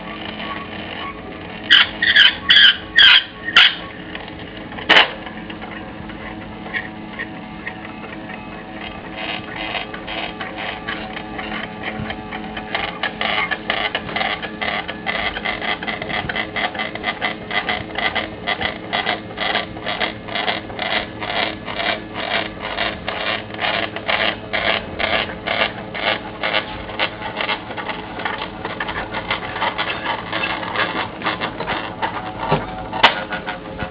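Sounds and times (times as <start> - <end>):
regular mechanical ticking: 0.0 - 33.9
stepper motor hum: 0.0 - 33.9.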